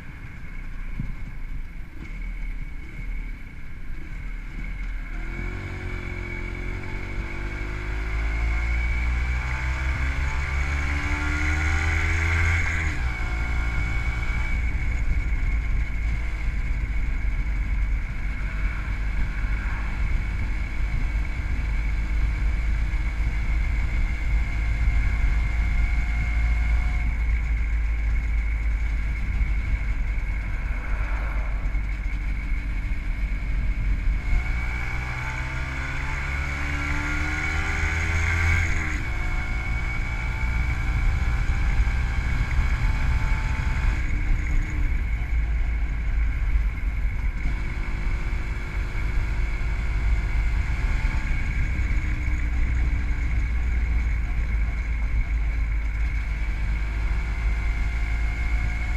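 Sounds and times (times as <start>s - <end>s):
motorcycle engine running: 0.0s - 58.9s
wind rumble on microphone: 0.0s - 58.9s.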